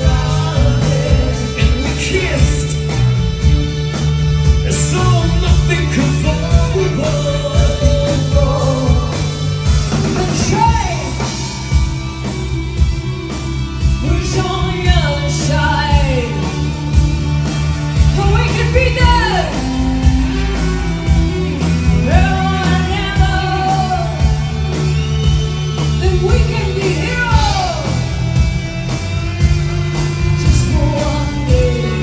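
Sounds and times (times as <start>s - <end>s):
lead vocal singing: 0.0s - 32.0s
rock band playing: 0.0s - 32.0s
steady bass line: 0.0s - 32.0s.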